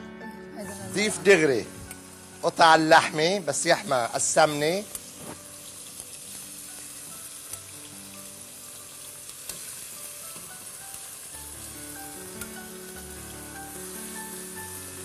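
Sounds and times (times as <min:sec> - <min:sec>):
meat sizzling in a pot: 0:00.2 - 0:15.0.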